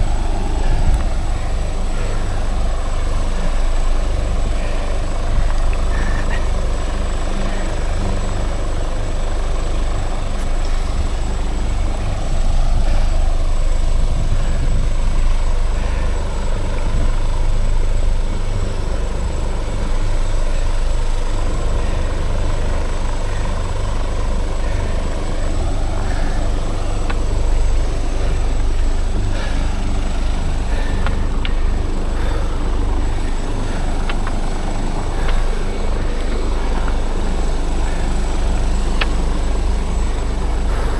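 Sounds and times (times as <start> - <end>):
helicopter rumble: 0.0 - 40.9.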